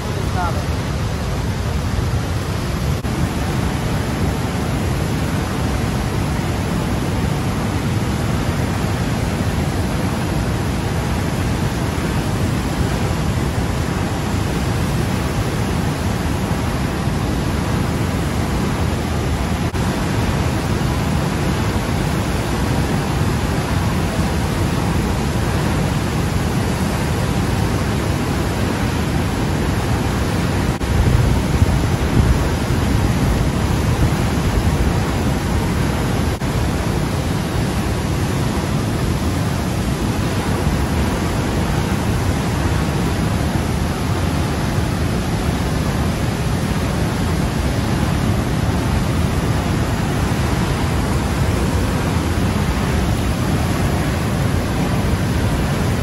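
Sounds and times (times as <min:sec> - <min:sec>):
white water rushing from dam: 0:00.0 - 0:56.0.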